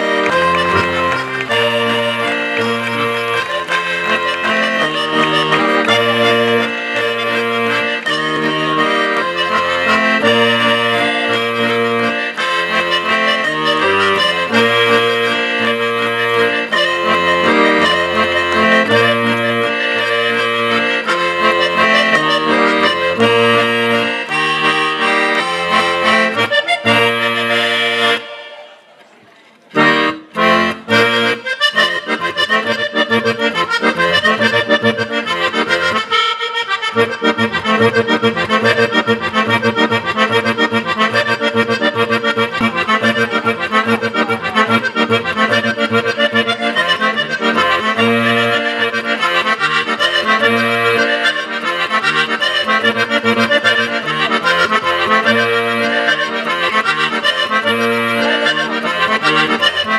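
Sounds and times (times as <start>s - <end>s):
button accordion folk tune: 0.0s - 29.0s, 29.7s - 59.9s.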